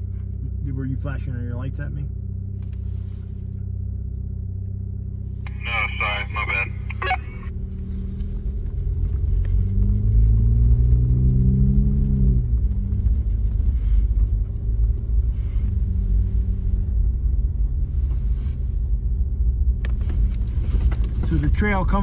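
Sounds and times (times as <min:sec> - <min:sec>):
vehicle engine rumbling and revving: 0:00.0 - 0:22.0.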